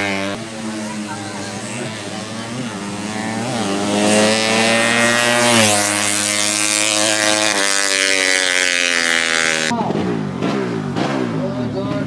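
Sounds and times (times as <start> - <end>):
motorcycle engine revving hard: 0.0 - 12.0.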